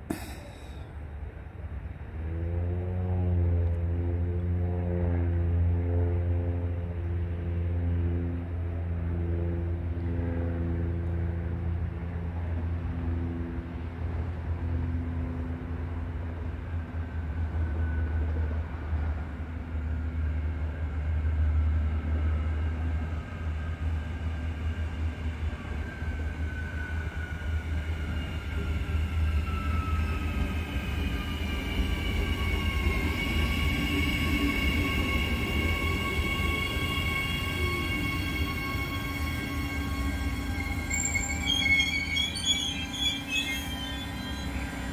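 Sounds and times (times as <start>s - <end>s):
train low rumble: 0.0s - 44.9s.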